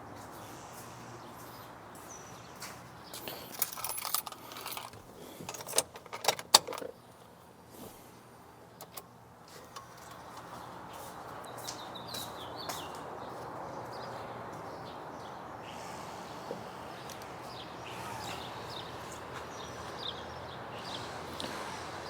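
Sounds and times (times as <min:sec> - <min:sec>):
birds chirping: 0:00.1 - 0:07.4, 0:08.6 - 0:22.0.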